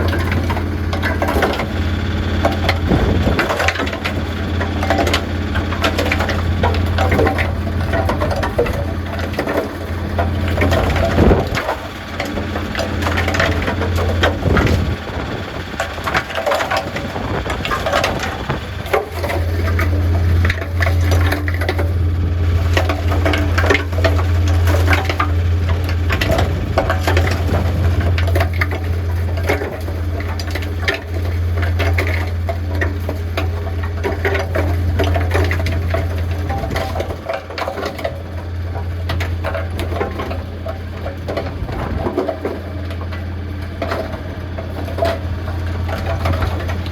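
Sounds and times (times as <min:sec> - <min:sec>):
concrete mixer humming: 0:00.0 - 0:46.9.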